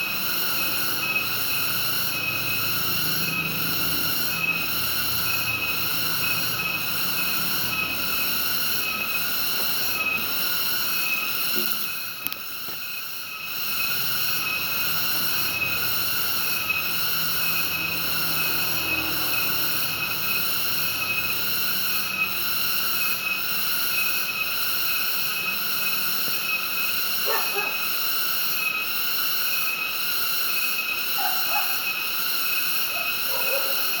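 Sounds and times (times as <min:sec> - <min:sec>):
insects calling: 0:00.0 - 0:34.0
frogs calling: 0:00.1 - 0:34.0.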